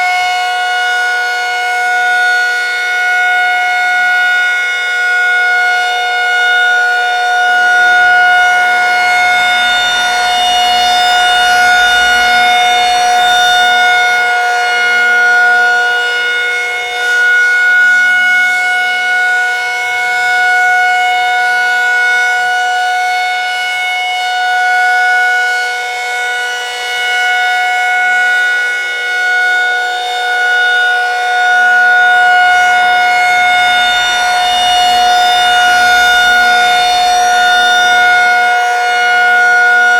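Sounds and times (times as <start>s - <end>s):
rotating warning siren two-tone: 0.0s - 39.9s.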